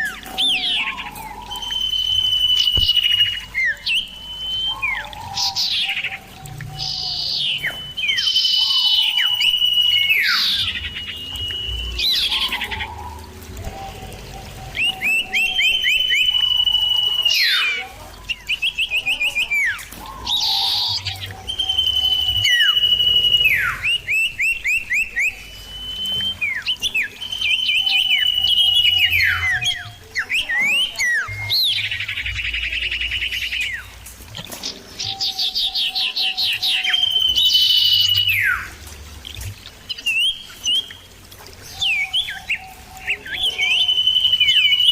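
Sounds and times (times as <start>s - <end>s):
bird singing whistles and trills: 0.0s - 34.0s, 34.6s - 44.9s.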